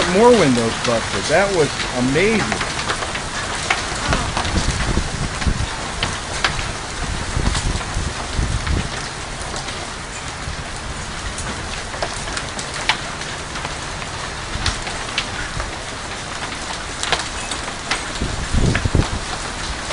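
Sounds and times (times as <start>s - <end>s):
hail and rain hitting ground: 0.0s - 19.9s
large hailstones cracking: 0.0s - 19.9s.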